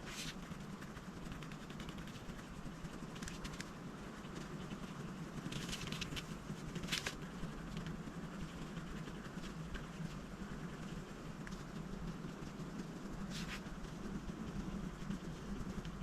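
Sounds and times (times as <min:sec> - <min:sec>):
low steady hum: 0:00.0 - 0:16.0
scratchy coloring strokes on paper: 0:00.0 - 0:16.0.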